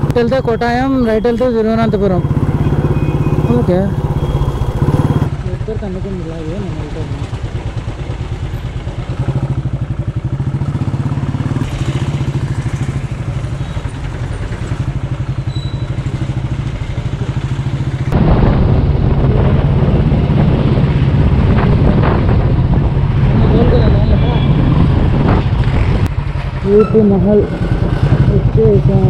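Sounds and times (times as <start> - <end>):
motorcycle engine running: 0.0 - 29.0
road noise: 0.0 - 29.0.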